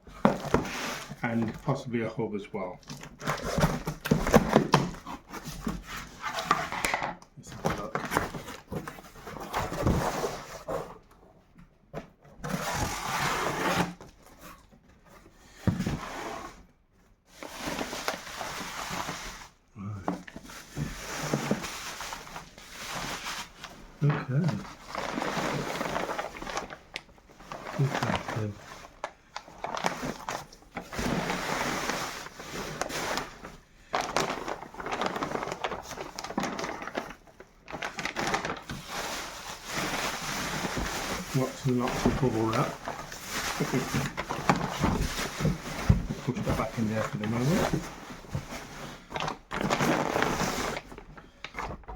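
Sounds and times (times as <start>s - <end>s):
packaging rustling: 0.1s - 2.0s, 2.8s - 11.0s, 17.3s - 51.9s
bubble wrap and plastic crinkling: 0.1s - 11.0s, 16.9s - 51.9s.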